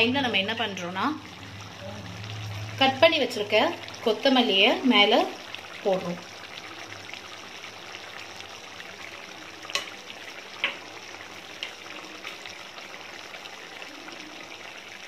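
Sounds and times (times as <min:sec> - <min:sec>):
thick gravy bubbling and popping: 0:00.0 - 0:15.0.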